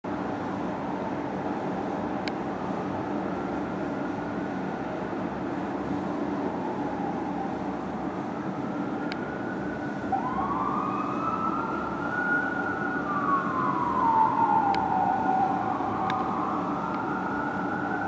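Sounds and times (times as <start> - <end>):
fire engine siren wailing: 0.2 - 18.0.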